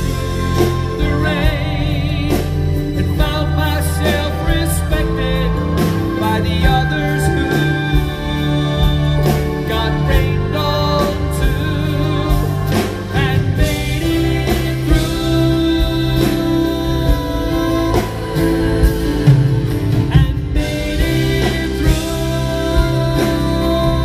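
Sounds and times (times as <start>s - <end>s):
acoustic guitars: 0.0s - 24.0s
man singing a ballad: 0.0s - 24.0s.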